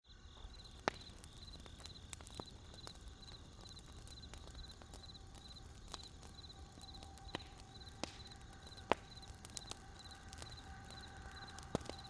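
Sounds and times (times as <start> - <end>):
campfire crackling and popping: 0.1 - 12.0
crickets chirping: 0.1 - 12.0.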